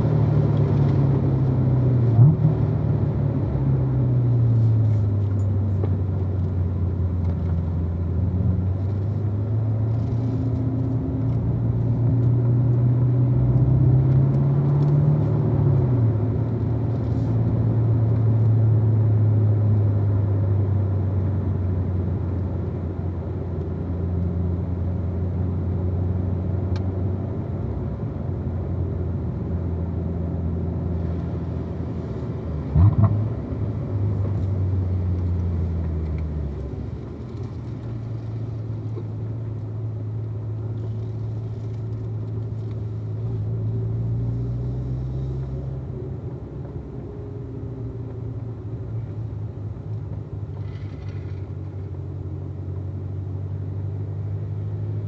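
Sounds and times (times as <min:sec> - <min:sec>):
car engine running at low revs: 0:00.0 - 0:55.0.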